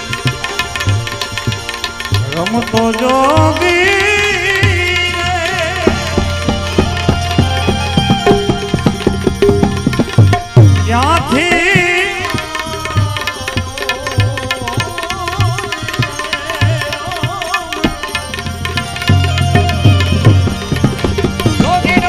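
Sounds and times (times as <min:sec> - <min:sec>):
tabla rhythm: 0:00.0 - 0:22.0.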